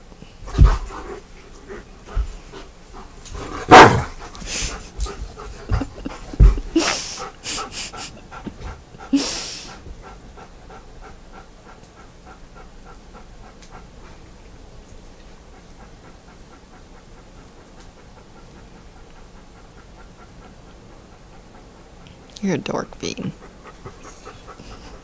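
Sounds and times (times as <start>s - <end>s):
dog panting: 0.4s - 22.3s, 22.9s - 25.0s.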